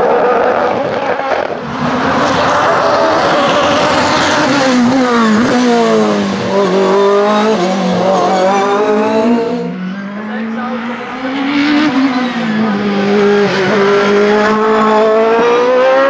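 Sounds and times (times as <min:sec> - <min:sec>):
race car engine passing: 0:00.0 - 0:16.0.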